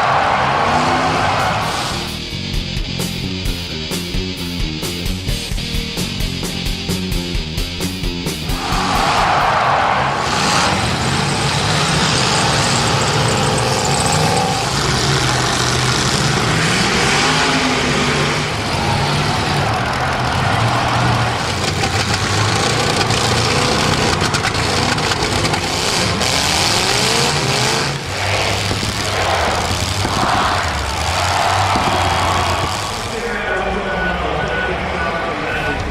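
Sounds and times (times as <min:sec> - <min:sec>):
car engines revving: 0:00.0 - 0:35.9.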